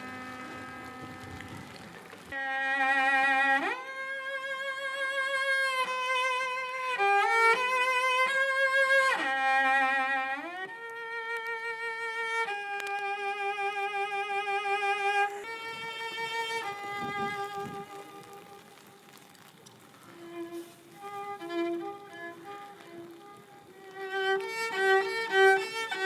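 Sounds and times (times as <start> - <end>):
solo cello melody: 0.0 - 1.5, 2.3 - 18.9, 20.0 - 26.0.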